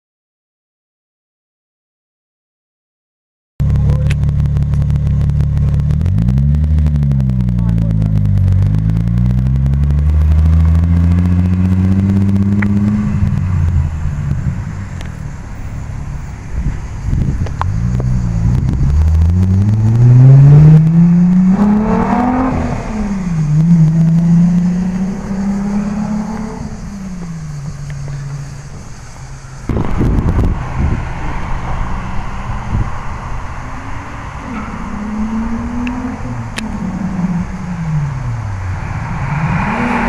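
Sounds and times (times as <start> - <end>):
car engine accelerating hard: 3.6 - 40.0.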